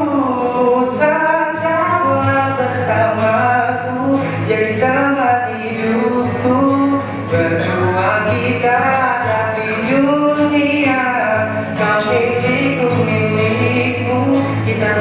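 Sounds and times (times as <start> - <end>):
acoustic guitar: 0.0 - 15.0
man singing into a microphone: 0.0 - 15.0.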